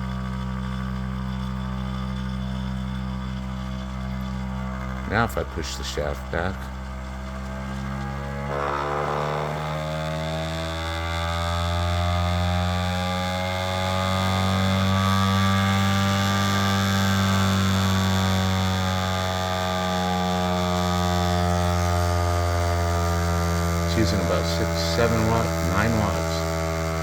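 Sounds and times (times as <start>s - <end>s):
motor hum and whine: 0.0s - 27.0s.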